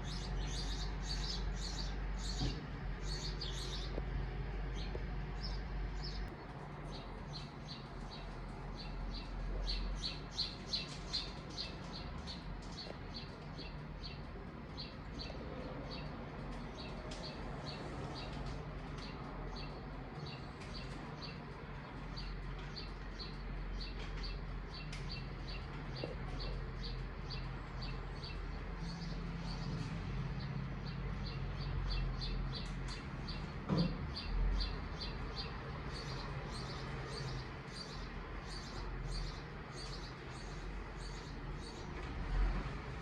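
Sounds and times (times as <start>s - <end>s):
small birds chirping: 0.0s - 42.1s.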